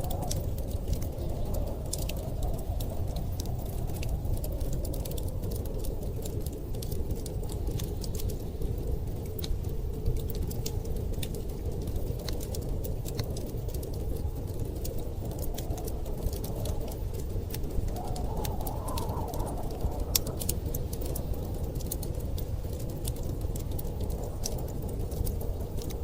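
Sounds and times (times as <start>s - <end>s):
storm wind rumbling: 0.0s - 26.0s
wood fire crackling: 0.0s - 26.0s.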